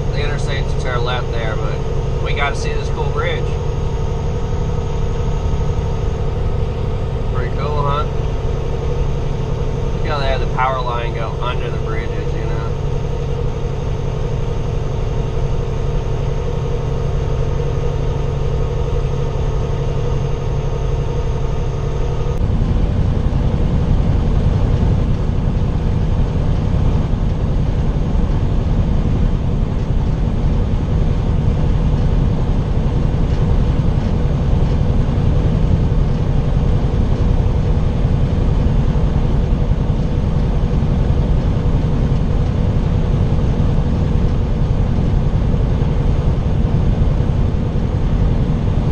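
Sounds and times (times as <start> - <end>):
road noise: 0.0 - 48.9
truck diesel engine running: 0.0 - 48.9.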